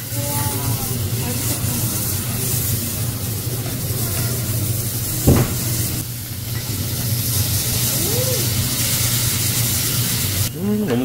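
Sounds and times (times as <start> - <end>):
low hum: 0.0 - 10.4
meat sizzling on a griddle: 0.0 - 10.5
liquid hissing on hot plate: 0.0 - 10.7.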